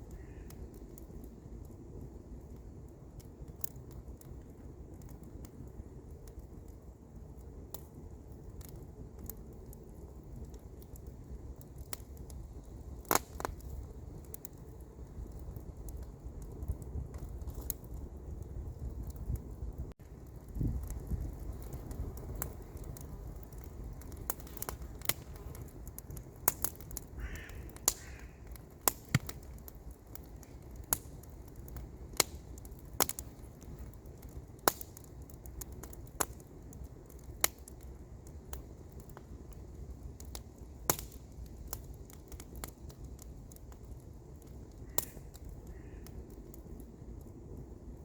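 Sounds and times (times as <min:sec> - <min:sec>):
wood campfire crackling: 0:00.0 - 0:48.0.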